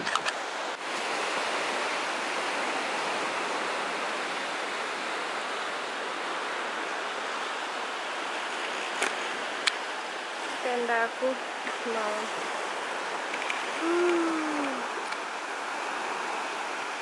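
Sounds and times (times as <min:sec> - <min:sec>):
surf washing onto beach: 0:00.0 - 0:17.0.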